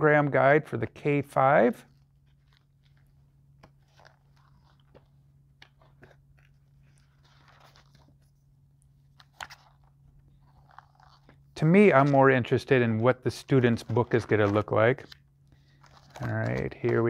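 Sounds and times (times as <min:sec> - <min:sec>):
steady low hum: 0:00.0 - 0:17.0
paper pages flipping: 0:01.9 - 0:17.0.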